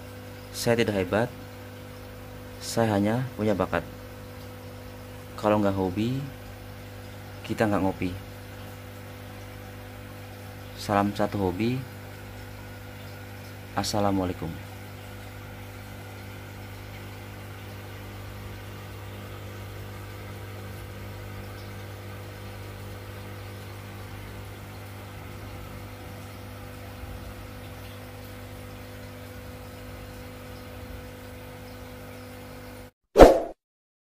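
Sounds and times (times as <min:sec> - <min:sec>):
aquarium air pump humming: 0:00.0 - 0:33.3.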